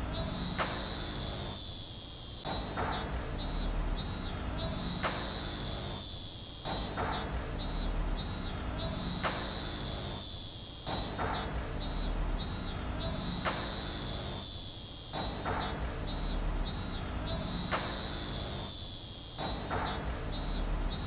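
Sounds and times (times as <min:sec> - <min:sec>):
cicada song: 0:00.0 - 0:21.0.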